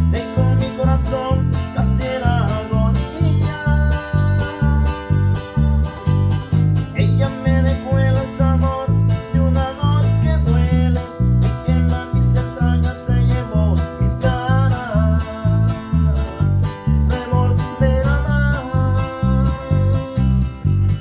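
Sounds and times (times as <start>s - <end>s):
bass guitar steady beat: 0.0s - 21.0s
guitar chords: 0.0s - 21.0s.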